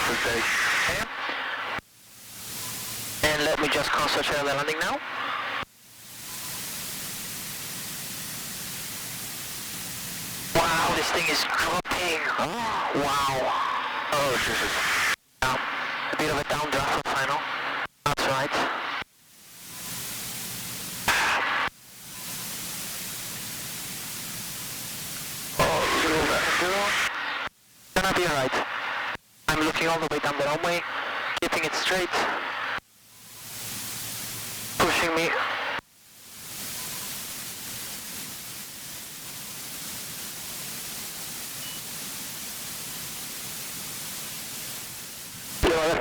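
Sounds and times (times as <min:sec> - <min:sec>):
aircraft cockpit hiss: 0:00.0 - 0:46.0.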